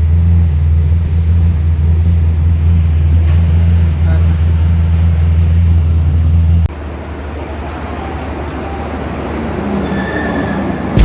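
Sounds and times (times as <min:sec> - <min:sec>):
vehicle engine humming: 0:00.0 - 0:09.0
outdoor traffic noise: 0:00.0 - 0:11.0.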